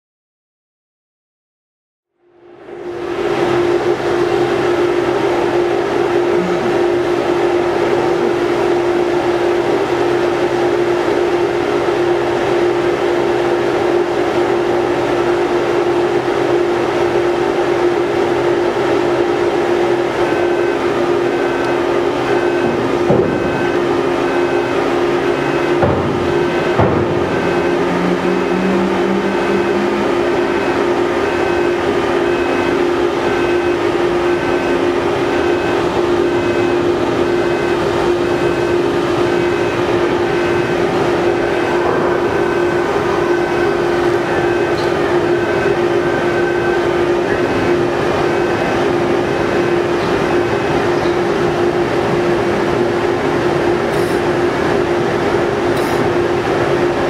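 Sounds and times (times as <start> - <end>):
ship engines droning: 2.2 - 57.0.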